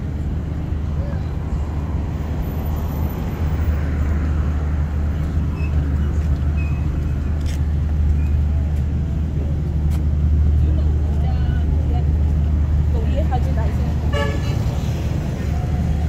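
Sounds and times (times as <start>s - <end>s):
outdoor street noise: 0.0s - 16.0s.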